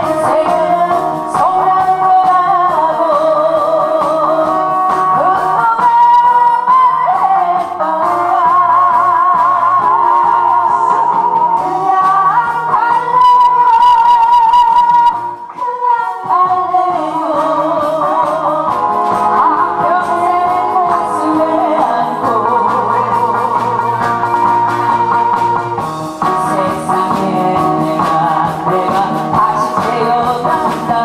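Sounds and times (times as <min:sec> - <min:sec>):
woman singing with vibrato: 0:00.0 - 0:25.6, 0:26.2 - 0:31.0
instrumental accompaniment: 0:00.0 - 0:31.0.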